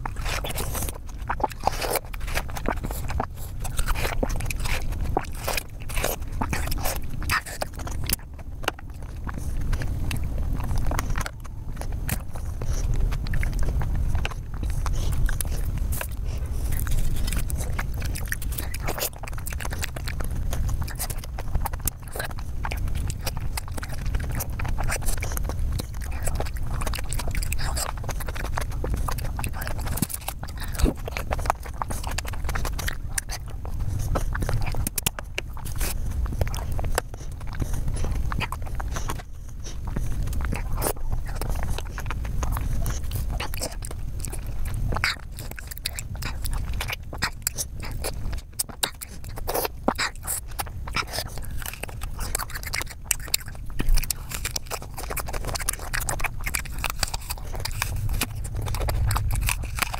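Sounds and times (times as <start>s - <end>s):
crunchy fruit chewing: 0.0s - 59.9s.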